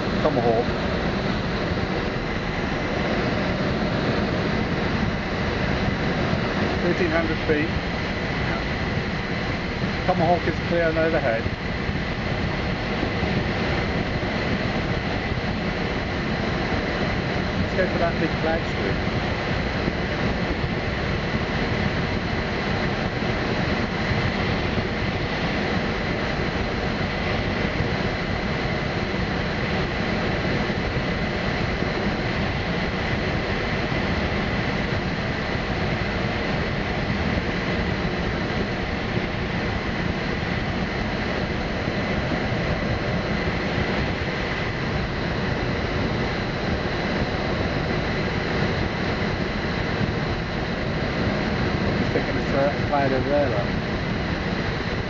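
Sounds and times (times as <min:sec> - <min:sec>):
airflow rushing in cockpit: 0:00.0 - 0:55.0.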